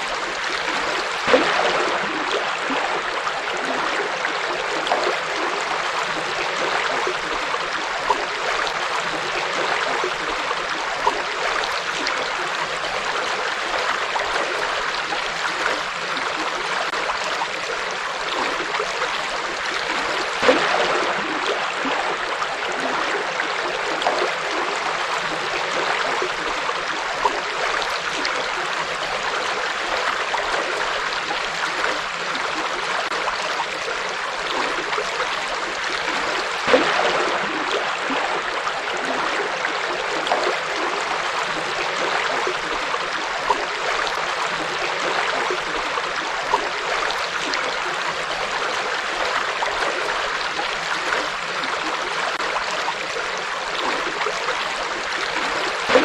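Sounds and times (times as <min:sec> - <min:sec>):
river water flowing over stones: 0:00.0 - 0:56.0
small splashes and gurgles: 0:00.0 - 0:56.0.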